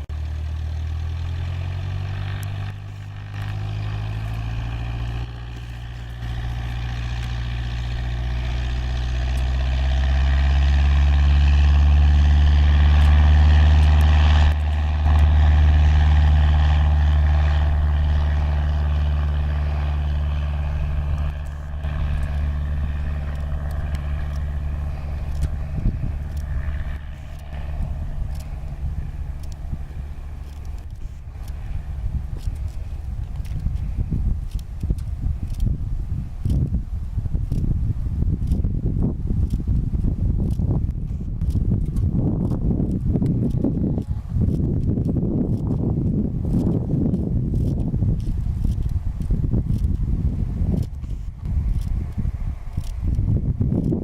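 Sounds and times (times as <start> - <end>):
propeller plane engine at full power: 0.0 - 54.0.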